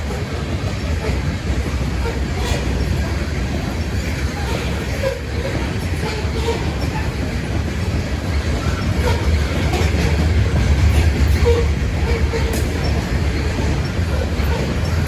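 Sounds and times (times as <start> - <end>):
train wheels rumbling on rail: 0.0 - 15.0
wheels squealing: 0.1 - 15.0.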